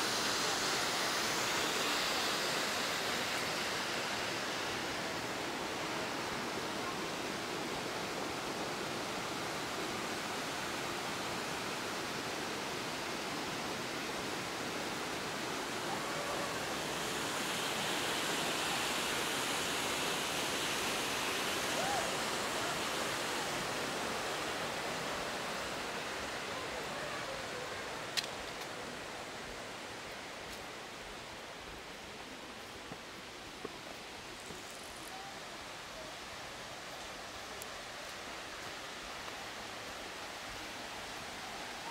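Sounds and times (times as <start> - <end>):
running water rushing: 0.0 - 41.9.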